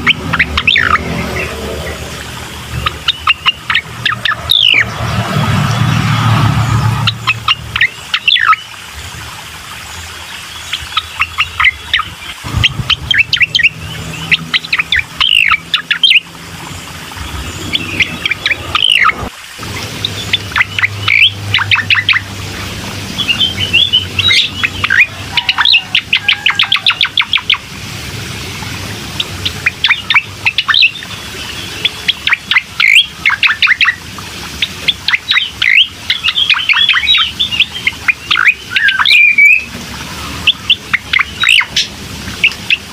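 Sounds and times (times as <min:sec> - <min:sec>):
songbird chirping and trilling: 0:00.0 - 0:27.7, 0:28.3 - 0:34.0, 0:34.6 - 0:42.9.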